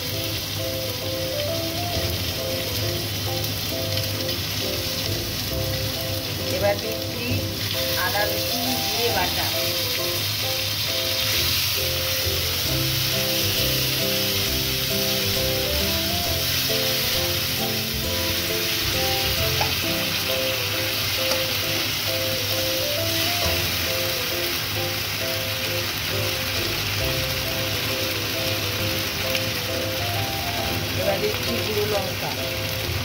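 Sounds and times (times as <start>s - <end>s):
light background melody: 0.0s - 33.0s
paste frying in hot oil: 0.0s - 33.0s.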